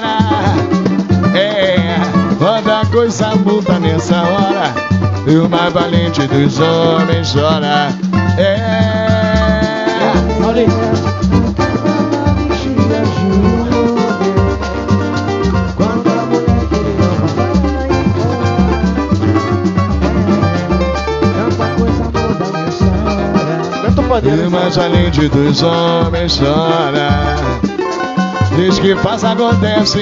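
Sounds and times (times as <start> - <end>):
drums and percussion: 0.0 - 30.0
plucked strings: 0.0 - 30.0
pulsing bass: 0.0 - 30.0
samba band playing: 0.0 - 30.0.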